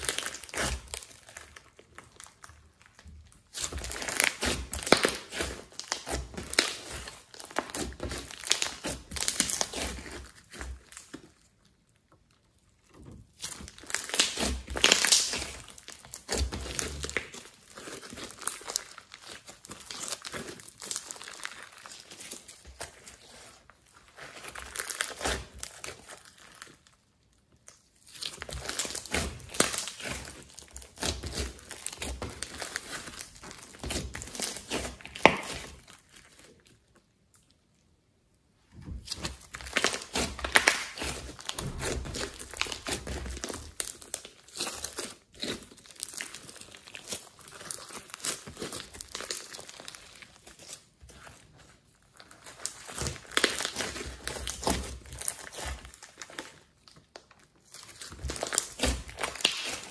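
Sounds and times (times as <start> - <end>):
slime crackling and popping: 0.0 - 59.9.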